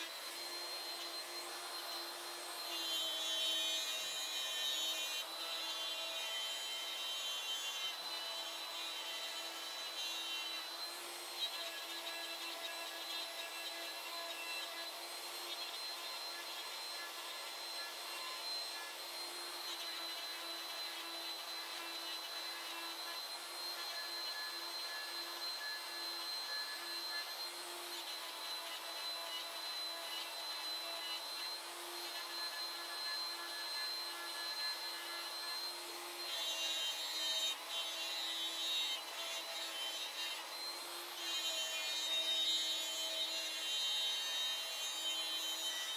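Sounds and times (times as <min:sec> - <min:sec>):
end mill cutting wood: 0:00.0 - 0:45.9
router spindle whine: 0:00.0 - 0:45.9.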